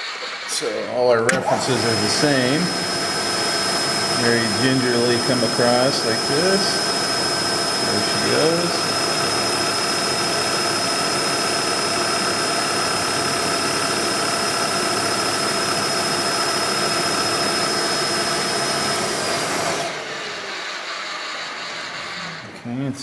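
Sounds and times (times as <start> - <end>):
router bit cutting plastic: 0.0 - 22.6.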